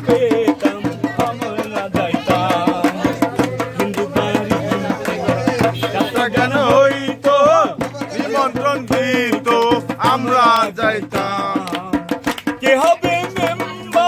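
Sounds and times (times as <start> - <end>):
man singing folk song: 0.0 - 14.0.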